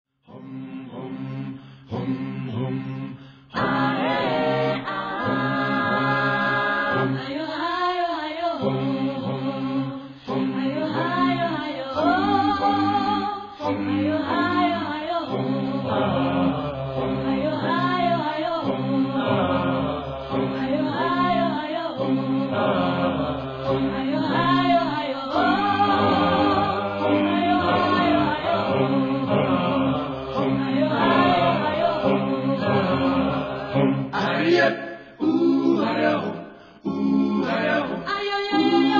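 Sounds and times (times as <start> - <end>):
group singing: 0.3 - 38.9.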